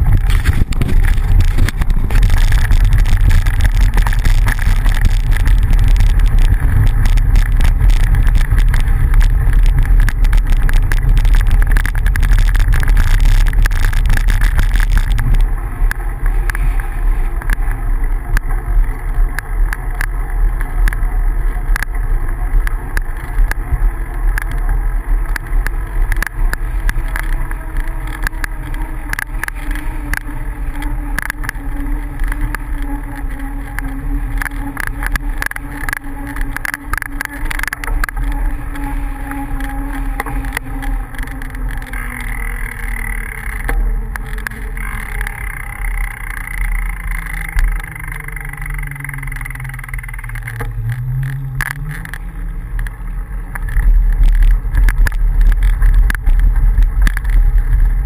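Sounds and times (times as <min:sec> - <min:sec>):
bicycle rattling on gravel: 0:00.0 - 0:58.0
wind rumble on microphone: 0:00.0 - 0:58.0.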